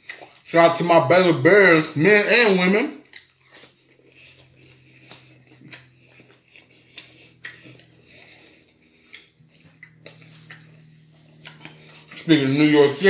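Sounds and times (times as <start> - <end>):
wet chewing mouth sounds: 0.0 - 0.8, 3.0 - 13.0
faint low hum: 0.0 - 13.0.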